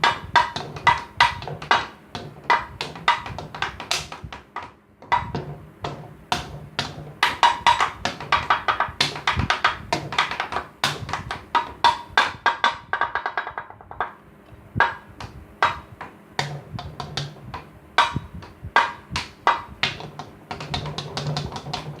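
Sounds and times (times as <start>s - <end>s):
homemade drum strikes: 0.0s - 14.2s, 14.8s - 22.0s.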